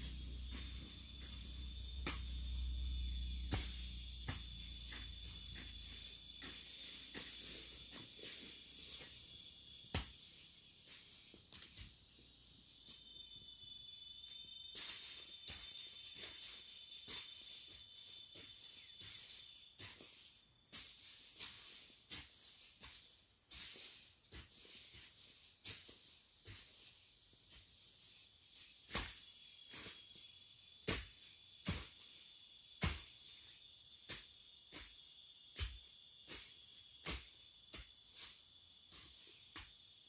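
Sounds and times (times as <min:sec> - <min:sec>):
hoe chopping dry ground: 0:00.0 - 0:12.1, 0:14.7 - 0:39.9.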